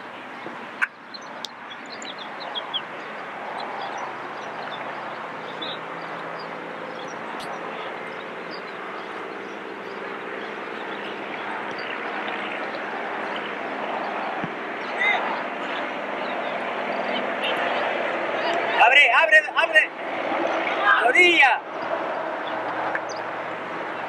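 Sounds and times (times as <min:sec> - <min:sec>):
broad rushing noise: 0:00.0 - 0:24.0.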